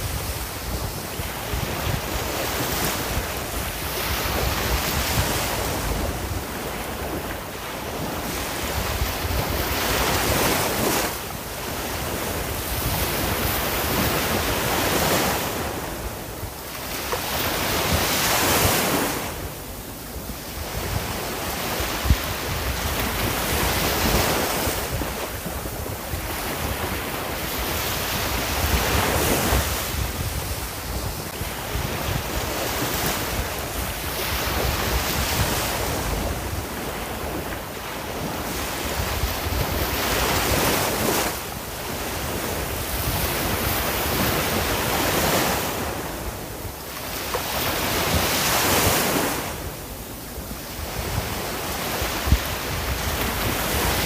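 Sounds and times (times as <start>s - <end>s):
ocean waves breaking on shore: 0.0s - 54.0s
wind buffeting microphone: 0.0s - 54.0s.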